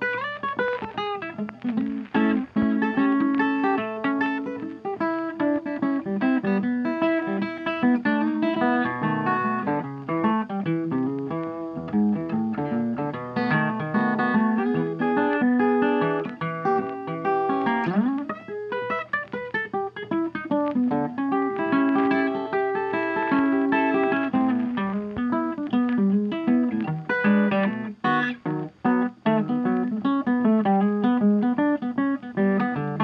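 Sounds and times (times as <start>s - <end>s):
plucked guitar melody: 0.0s - 33.0s.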